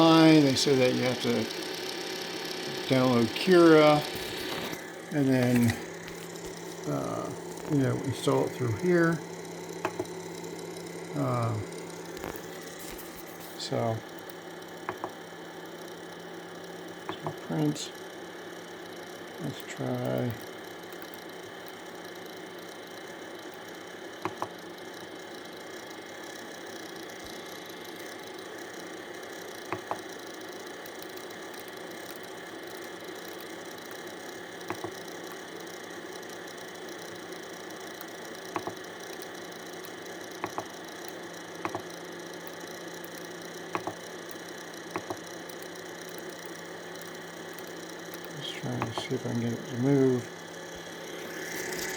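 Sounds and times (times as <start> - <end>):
printer fans humming: 0.0 - 51.9.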